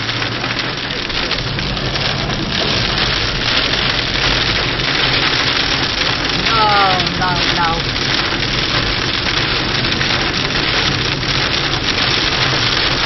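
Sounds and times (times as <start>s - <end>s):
heavy rain and hail on car roof: 0.0s - 13.0s
low car hum: 0.0s - 13.0s.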